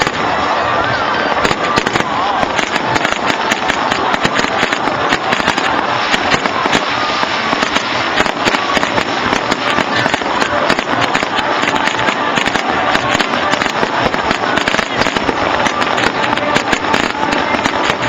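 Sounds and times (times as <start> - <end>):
fireworks crackling pops: 0.0 - 18.0.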